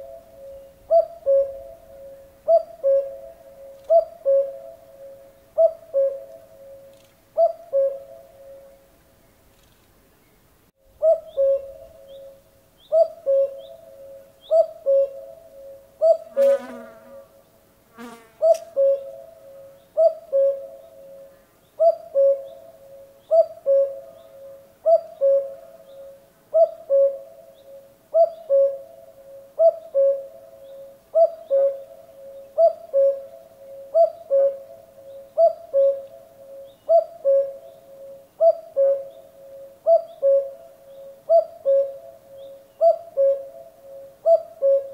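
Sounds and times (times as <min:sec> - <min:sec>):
cuckoo calling: 0:00.0 - 0:08.8, 0:11.0 - 0:16.3, 0:18.4 - 0:44.9.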